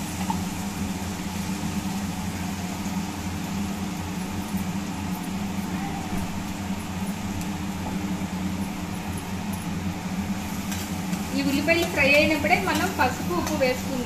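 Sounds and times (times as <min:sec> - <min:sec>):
onions sizzling in hot oil: 0:00.0 - 0:14.0
steady low hum: 0:00.0 - 0:14.0.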